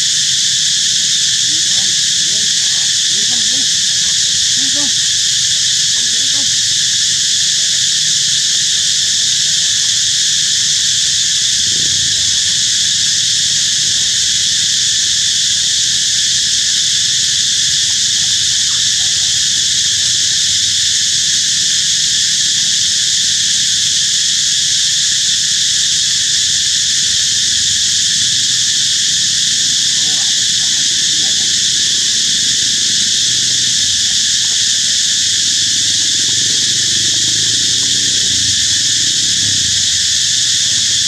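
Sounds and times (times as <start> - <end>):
insects buzzing: 0.0 - 41.0.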